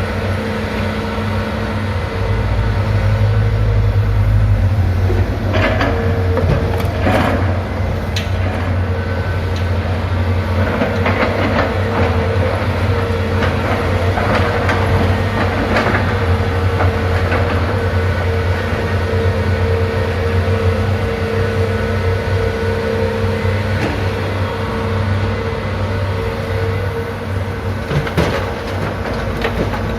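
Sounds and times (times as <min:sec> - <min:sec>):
heavy engine running: 0:00.0 - 0:29.9.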